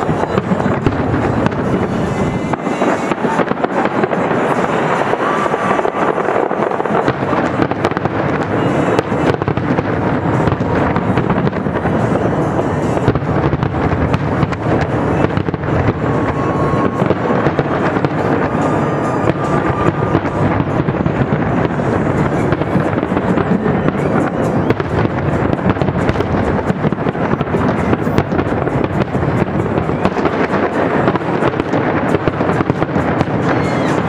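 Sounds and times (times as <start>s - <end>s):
fireworks bursting and crackling: 0.0s - 34.0s
high whistling fireworks: 0.0s - 34.0s.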